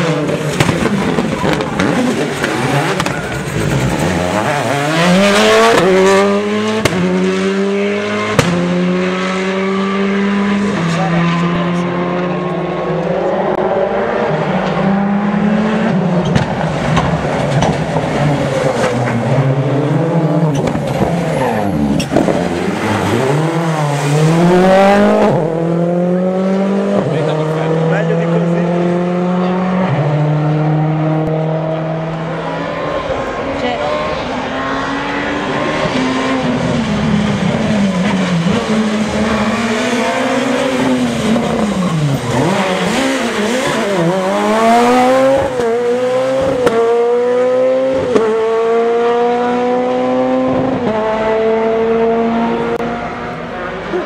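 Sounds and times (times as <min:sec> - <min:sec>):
rally cars accelerating hard: 0:00.0 - 0:54.0.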